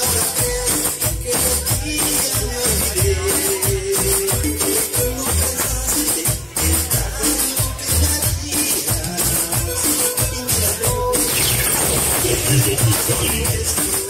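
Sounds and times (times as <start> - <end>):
latin dance music: 0.0 - 14.0.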